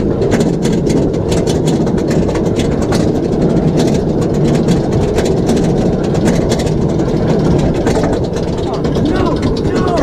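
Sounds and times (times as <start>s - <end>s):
chain lift mechanical rumble: 0.0s - 10.0s
fast even clacking: 0.0s - 10.0s.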